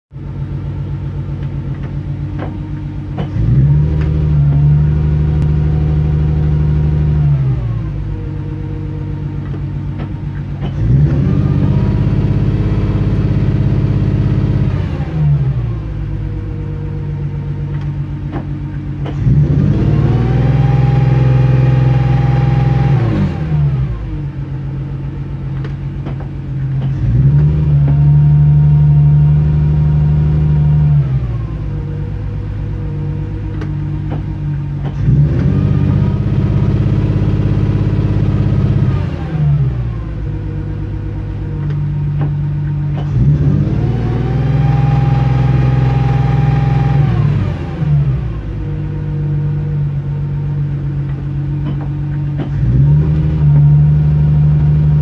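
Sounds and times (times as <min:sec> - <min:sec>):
car engine idling: 0:00.1 - 0:55.0.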